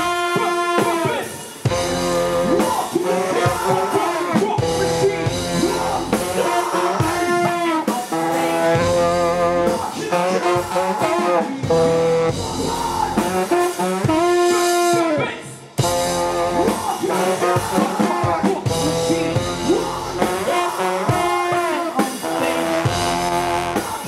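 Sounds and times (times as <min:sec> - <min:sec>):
live band with brass and drums: 0:00.0 - 0:24.0
person singing: 0:00.0 - 0:24.0.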